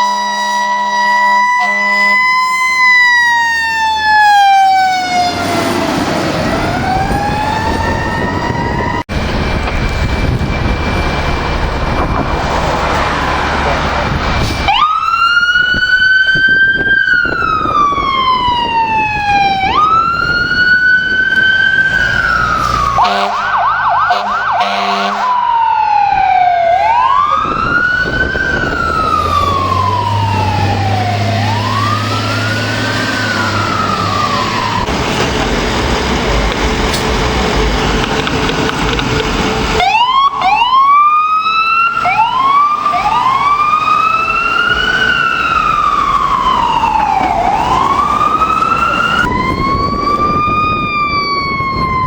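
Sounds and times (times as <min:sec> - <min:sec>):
electronic siren wailing: 0:00.0 - 0:35.7, 0:37.6 - 0:52.0
heavy vehicle engine rumbling: 0:00.0 - 0:52.0.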